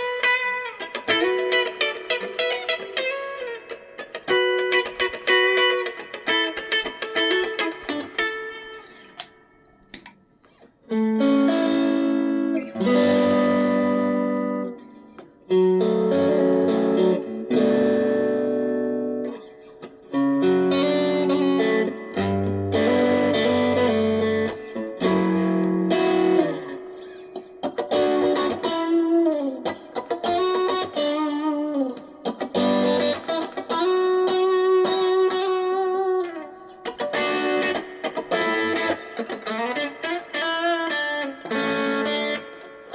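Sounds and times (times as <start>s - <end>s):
electric guitar playing: 0.0s - 42.9s.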